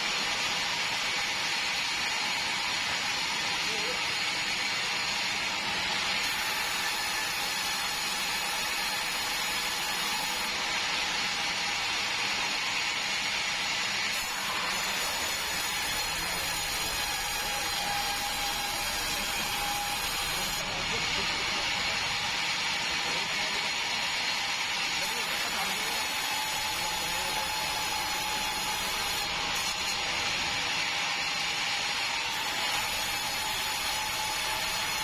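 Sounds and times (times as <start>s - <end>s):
sawmill saw cutting timber: 0.0s - 35.0s.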